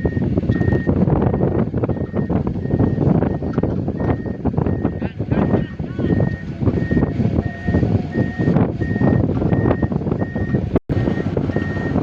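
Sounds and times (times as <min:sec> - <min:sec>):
back-up alarm beeping: 0:00.0 - 0:12.0
heavy machine engine noise: 0:00.0 - 0:12.0.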